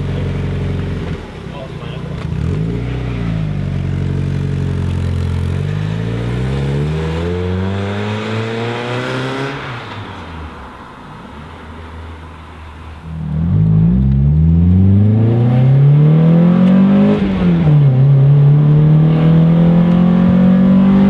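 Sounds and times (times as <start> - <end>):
car exhaust accelerating: 0.0 - 10.6, 11.2 - 21.0.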